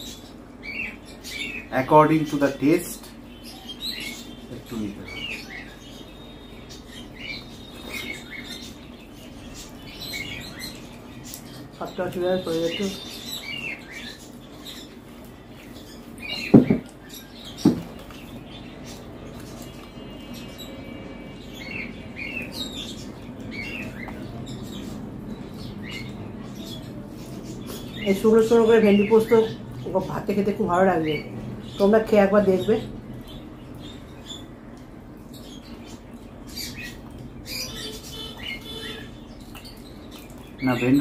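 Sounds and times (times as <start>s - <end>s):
steady low hum: 0.0s - 40.7s.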